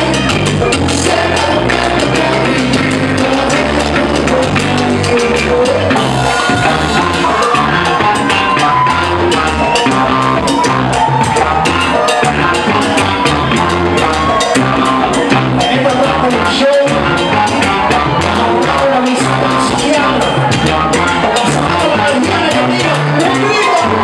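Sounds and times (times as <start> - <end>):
bass guitar: 0.0 - 24.0
congas: 0.0 - 24.0
drum kit: 0.0 - 24.0
electric guitars: 0.0 - 24.0.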